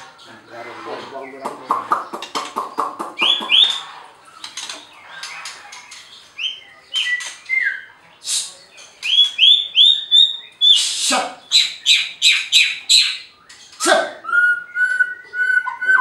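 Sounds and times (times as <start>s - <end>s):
songbird whistled song: 1.4s - 3.8s, 5.2s - 16.0s.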